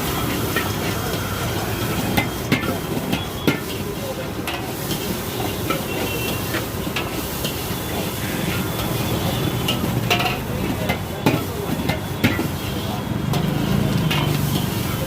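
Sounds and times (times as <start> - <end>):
frying hiss: 0.0 - 15.0
metal ladle scraping a wok: 0.0 - 15.0.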